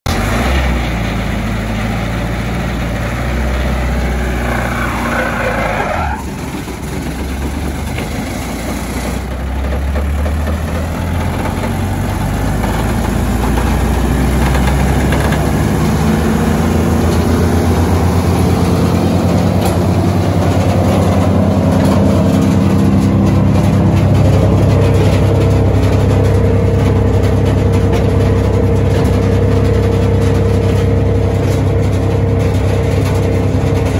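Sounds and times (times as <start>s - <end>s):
wood chipper engine running: 0.1s - 33.9s.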